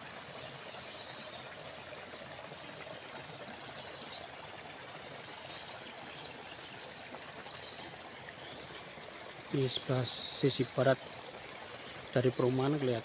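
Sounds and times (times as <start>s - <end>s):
water trickling in ditch: 0.0s - 13.0s.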